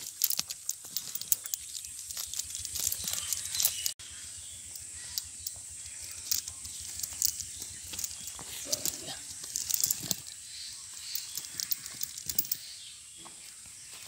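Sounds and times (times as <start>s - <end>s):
leaves and twigs crackling: 0.0s - 4.0s, 4.6s - 12.8s.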